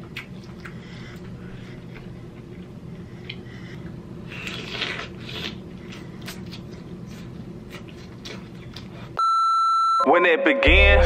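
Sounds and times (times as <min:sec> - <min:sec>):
chewing crab with crackles: 0:00.0 - 0:09.2.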